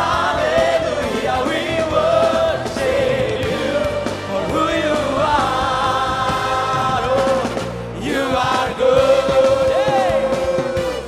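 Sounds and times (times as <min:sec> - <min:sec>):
band playing: 0:00.0 - 0:11.0
voices singing long notes: 0:00.0 - 0:11.0.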